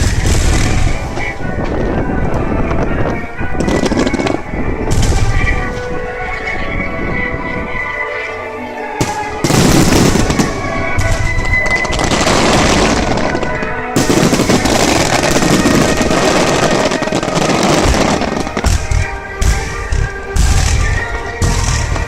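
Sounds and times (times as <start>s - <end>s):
fireworks bursting and crackling: 0.0s - 6.9s, 9.0s - 22.0s
music: 0.0s - 22.0s.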